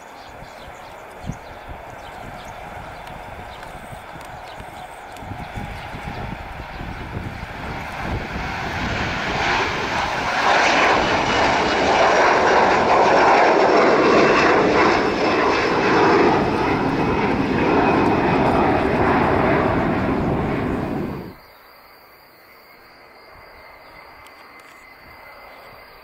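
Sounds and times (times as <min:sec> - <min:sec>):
jet engines at takeoff power: 0:00.0 - 0:21.4, 0:22.8 - 0:26.0
faint high whine: 0:00.0 - 0:26.0.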